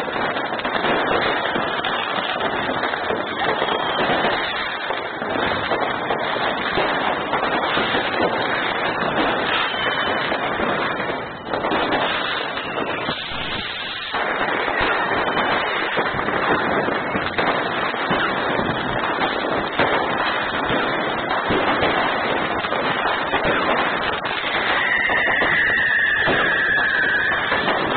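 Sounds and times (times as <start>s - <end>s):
fireworks bangs and crackles: 0.0s - 27.9s.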